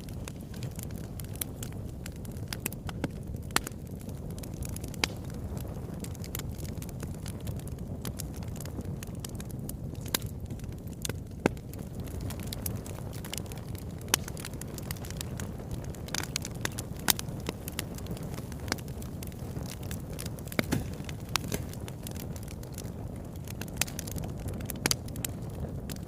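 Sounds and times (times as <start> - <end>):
fire pops: 0.0 - 26.0
wood fire crackling: 0.0 - 26.0.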